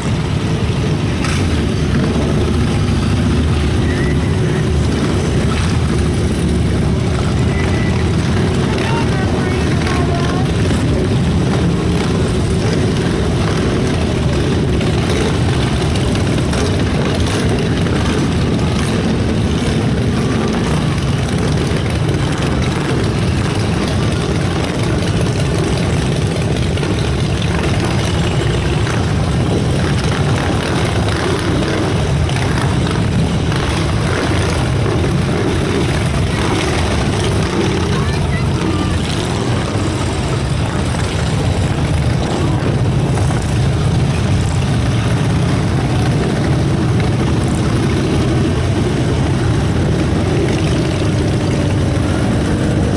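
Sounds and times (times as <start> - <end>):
procession of vehicles rumbling past: 0.0 - 52.9.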